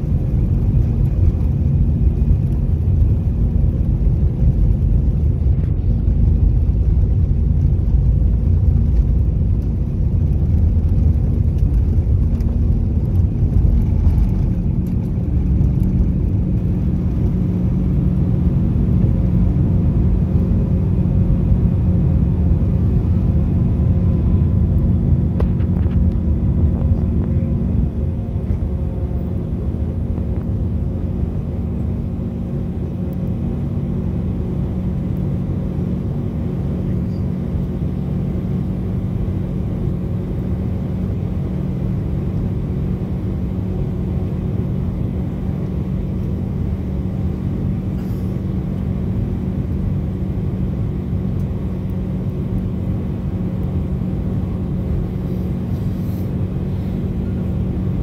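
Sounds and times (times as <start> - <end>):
jet engines at takeoff thrust: 0.0 - 58.0
wheels rumbling on runway: 0.0 - 58.0.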